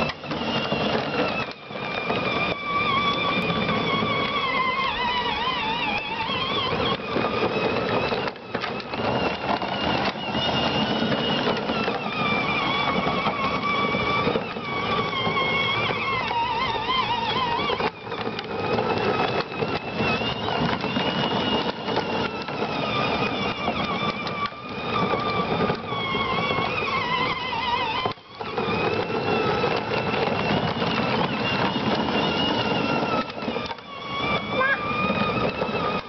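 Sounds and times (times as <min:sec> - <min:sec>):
plastic wheels rumbling on pavement: 0:00.0 - 0:36.0
toy truck electric motor whining: 0:00.0 - 0:36.0.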